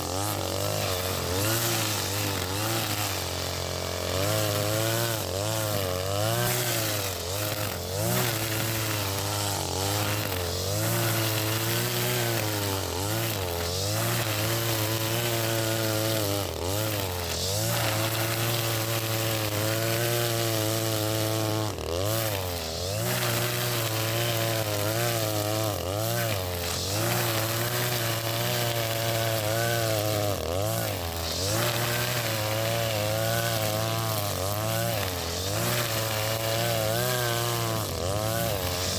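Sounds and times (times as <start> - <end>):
brush cutter engine cutting grass: 0.0 - 38.9.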